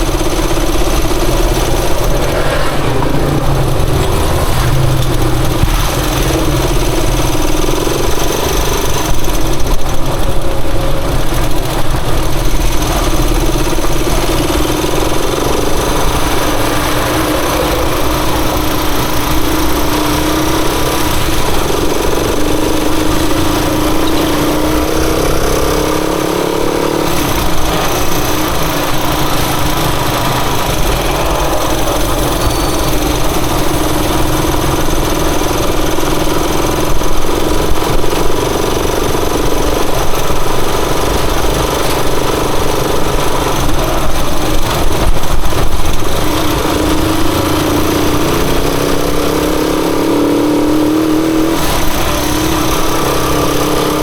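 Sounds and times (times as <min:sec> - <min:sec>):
loud rushing noise: 0:00.0 - 0:54.0
motorcycle engine revving: 0:00.0 - 0:54.0.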